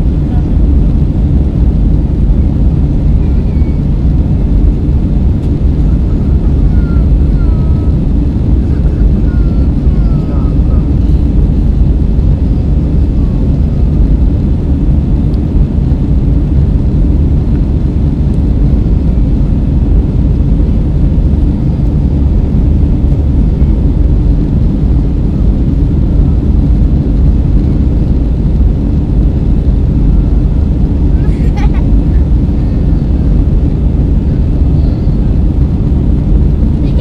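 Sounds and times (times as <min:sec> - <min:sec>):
jet engine cabin roar: 0:00.0 - 0:37.0.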